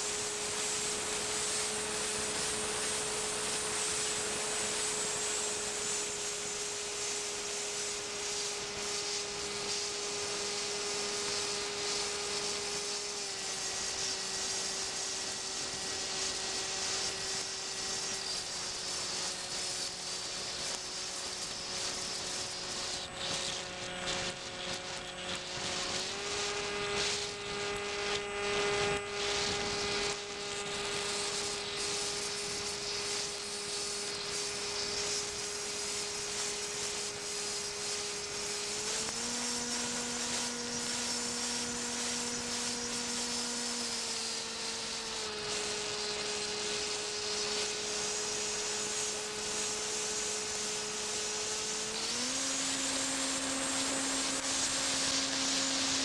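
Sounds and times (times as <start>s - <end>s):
model aircraft motor whine: 0.0s - 56.0s
steady high hiss: 0.0s - 56.0s.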